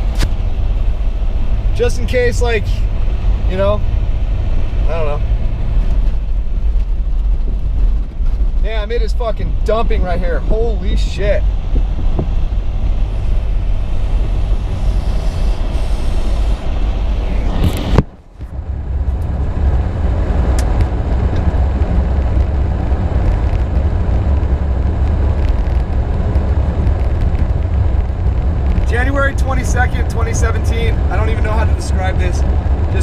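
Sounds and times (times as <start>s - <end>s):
engine and tyre rumble: 0.0s - 33.0s.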